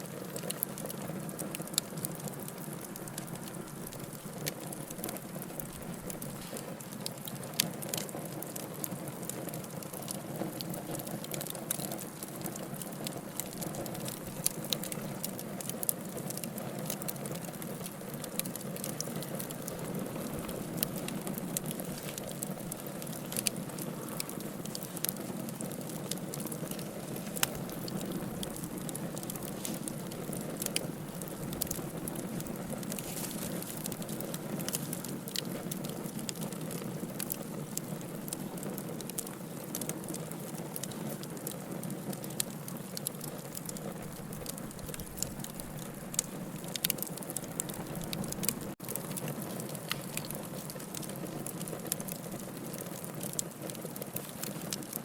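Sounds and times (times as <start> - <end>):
fire burning with crackles: 0.0 - 55.0.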